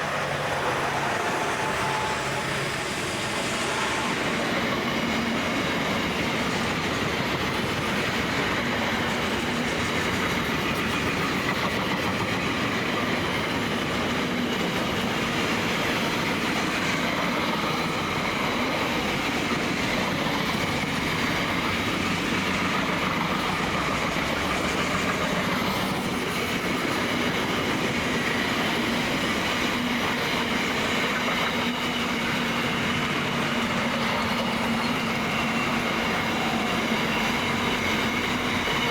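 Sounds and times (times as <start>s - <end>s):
freight train rumbling past: 0.0s - 38.9s
steel wheels clattering on rails: 0.0s - 38.9s.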